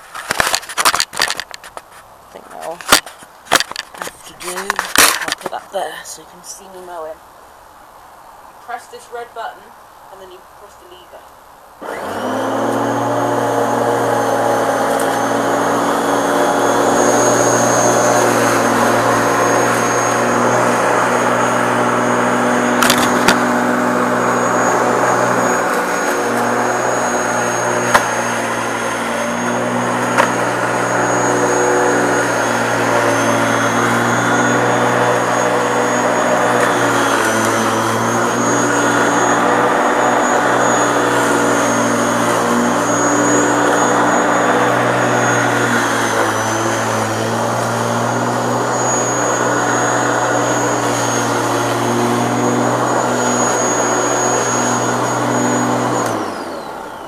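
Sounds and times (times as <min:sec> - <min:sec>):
electric lawn mower whining: 0:00.0 - 0:01.8, 0:02.6 - 0:05.5, 0:11.8 - 0:57.0.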